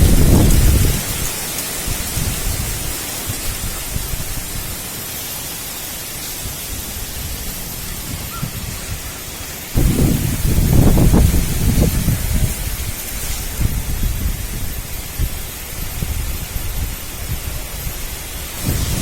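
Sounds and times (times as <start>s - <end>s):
heavy rain: 0.0s - 19.0s
strong wind: 0.0s - 19.0s.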